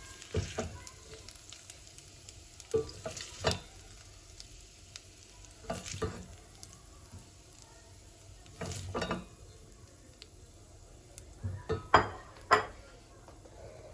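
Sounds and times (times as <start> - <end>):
food sizzling in a pan: 0.0 - 13.9
utensil stirring in a pan: 0.0 - 13.9.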